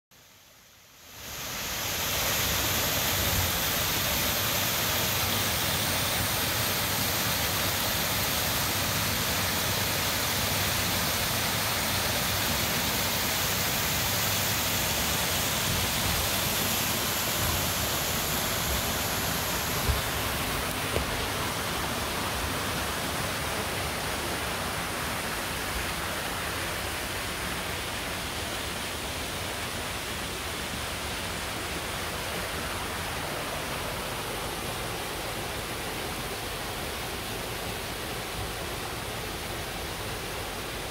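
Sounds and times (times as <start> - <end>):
waterfall rushing over rock: 0.2 - 40.9.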